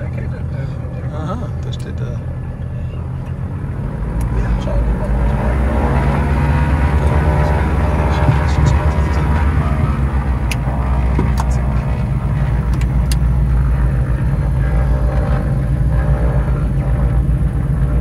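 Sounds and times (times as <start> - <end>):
aircraft engines droning: 0.0 - 18.0.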